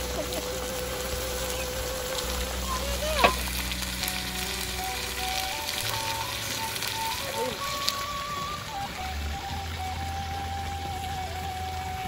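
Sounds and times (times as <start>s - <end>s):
curry simmering and sizzling: 0.0s - 12.0s.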